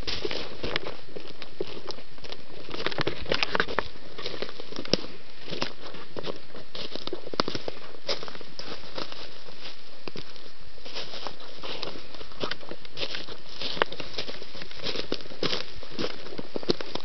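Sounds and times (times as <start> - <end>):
background hiss: 0.0 - 17.0
footsteps crunching on dry leaves: 0.0 - 17.0.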